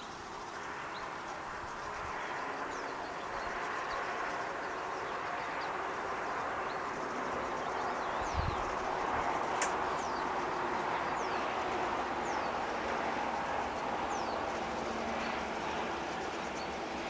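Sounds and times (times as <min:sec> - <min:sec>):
steady rushing background: 0:00.1 - 0:17.0.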